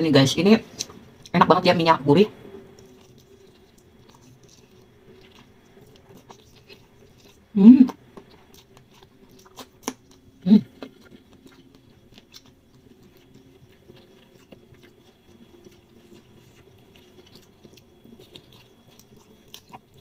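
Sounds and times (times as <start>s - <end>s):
steady low hum: 0.0s - 20.0s
chewing and mouth clicks: 0.7s - 1.3s, 2.7s - 20.0s.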